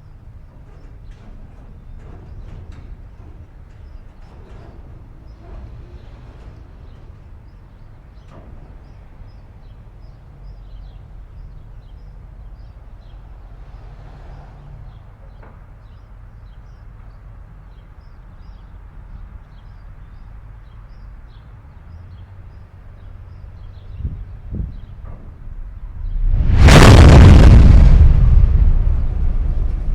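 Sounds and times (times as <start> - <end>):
diesel locomotives rumbling: 0.0 - 29.9.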